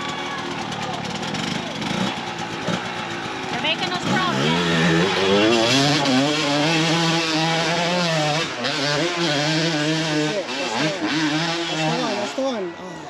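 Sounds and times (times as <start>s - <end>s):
motorcycle engine at high revs: 0.0s - 12.8s.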